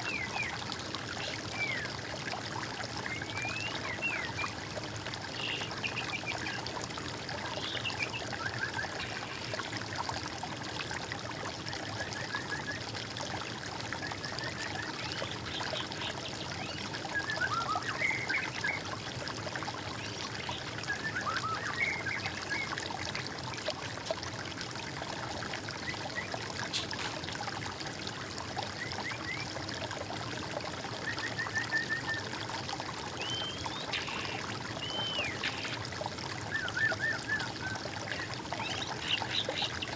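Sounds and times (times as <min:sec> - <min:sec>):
stream of water trickling: 0:00.0 - 0:39.9.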